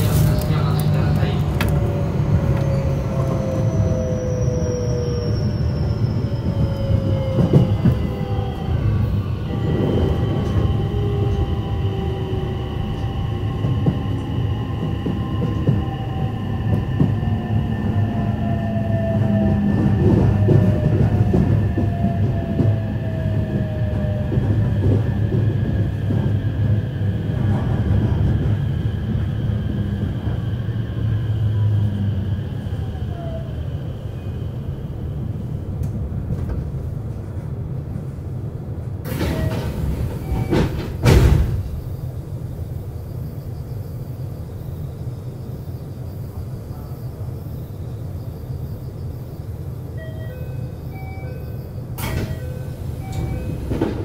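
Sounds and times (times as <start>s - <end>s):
electric train rumbling and whining: 0.0s - 54.0s.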